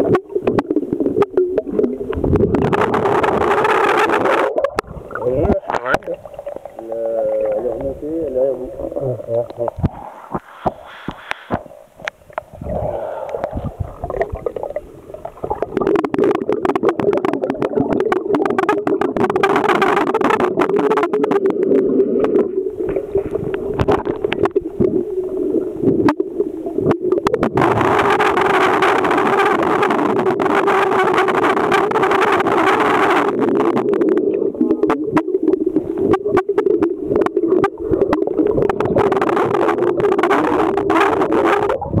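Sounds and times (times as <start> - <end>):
steady underwater hum: 0.0 - 42.0
underwater gurgling: 0.0 - 42.0.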